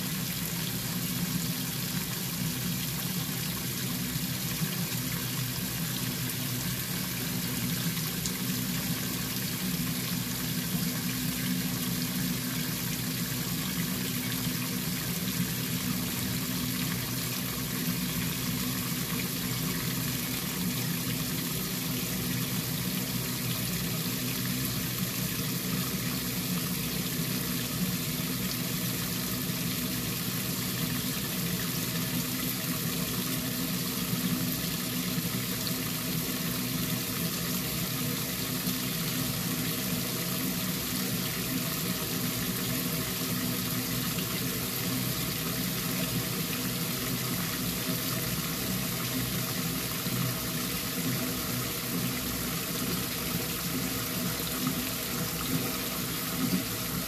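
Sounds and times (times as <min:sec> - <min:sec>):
water spraying into washer tub: 0:00.0 - 0:57.0.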